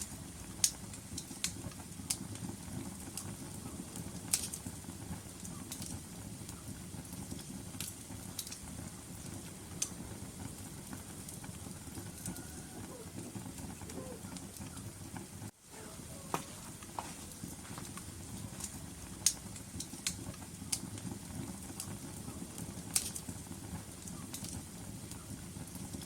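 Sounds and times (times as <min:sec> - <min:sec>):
fire crackling and popping: 0:00.0 - 0:26.0
rumble of burning logs: 0:00.0 - 0:26.0.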